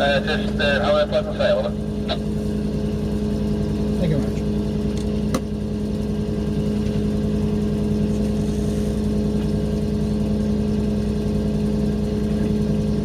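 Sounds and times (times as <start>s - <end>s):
boat engines droning: 0.0s - 13.0s.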